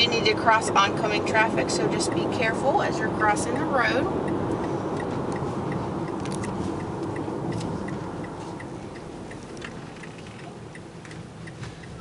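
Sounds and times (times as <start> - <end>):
car turn signal ticking: 0.0 - 12.0
road and engine noise in cabin: 0.0 - 12.0.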